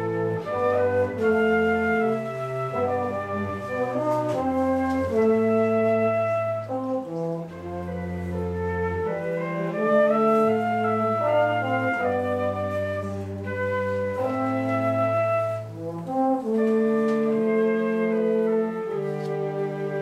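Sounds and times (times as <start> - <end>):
cello held bass notes: 0.0 - 20.0
flute melody: 0.0 - 20.0.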